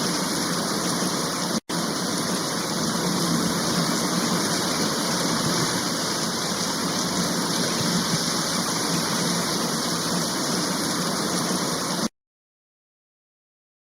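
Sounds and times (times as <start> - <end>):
heavy rain: 0.0 - 12.1.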